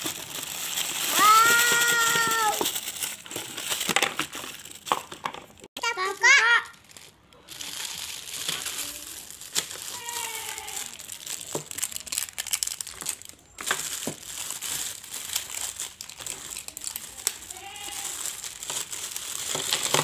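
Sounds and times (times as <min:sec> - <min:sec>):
plastic wrappers crinkling: 0:00.0 - 0:20.0.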